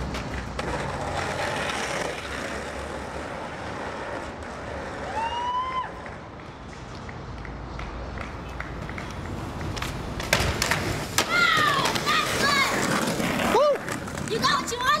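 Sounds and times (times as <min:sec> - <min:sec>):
skateboard wheels rolling on concrete: 0:00.0 - 0:15.0
street traffic: 0:00.0 - 0:15.0.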